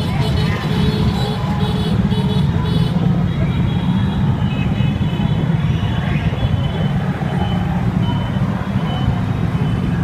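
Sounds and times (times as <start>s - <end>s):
dense street traffic: 0.0s - 10.0s.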